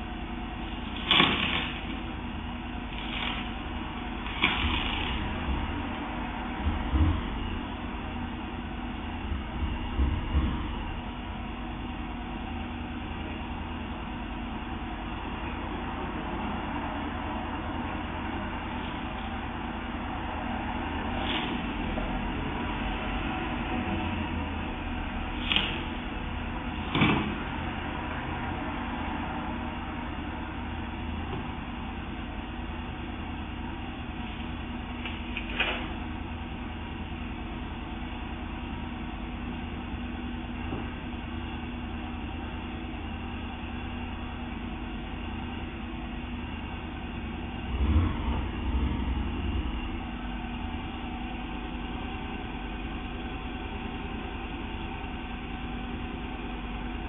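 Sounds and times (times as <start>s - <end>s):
vehicle engine idling: 0.0s - 57.0s.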